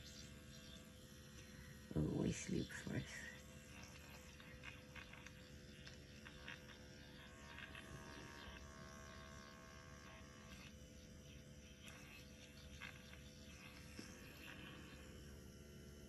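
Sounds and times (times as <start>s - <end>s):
microneedling pen buzzing: 0.0s - 16.0s.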